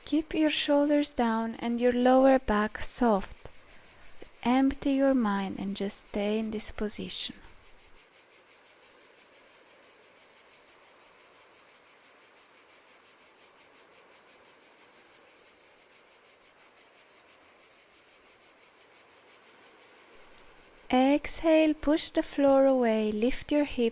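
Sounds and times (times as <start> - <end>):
crickets chirping faintly: 0.0 - 23.9.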